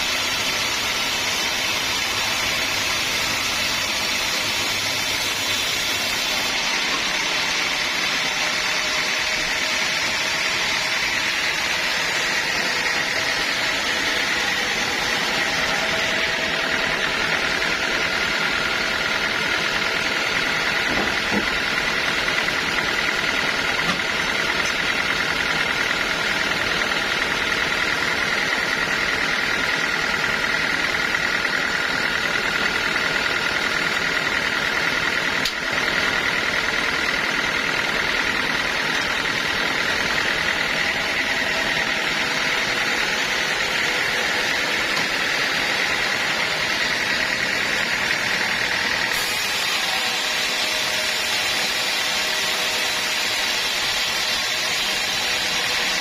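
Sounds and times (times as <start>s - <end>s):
sawmill saw cutting logs: 0.0s - 56.0s.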